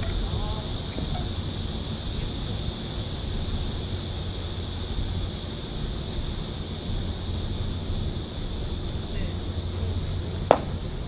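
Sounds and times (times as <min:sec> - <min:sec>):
outdoor hiss: 0:00.3 - 0:11.0.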